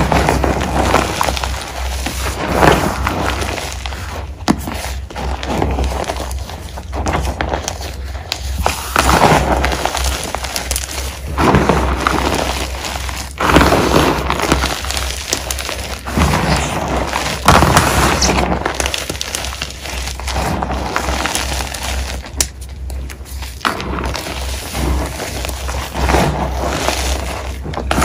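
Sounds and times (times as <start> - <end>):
hands crunching powdery chalk: 0.0 - 28.0.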